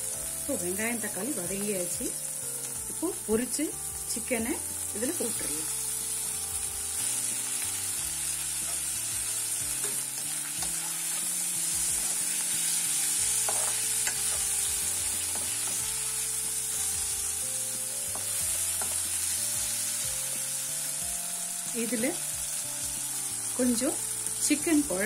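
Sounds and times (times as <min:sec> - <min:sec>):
frying hiss: 0:00.0 - 0:25.0.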